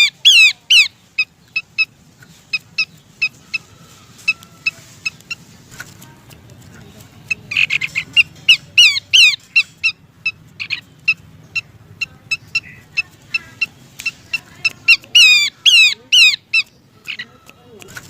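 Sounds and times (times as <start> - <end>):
bird chirping: 0.0 - 5.8, 6.8 - 18.0.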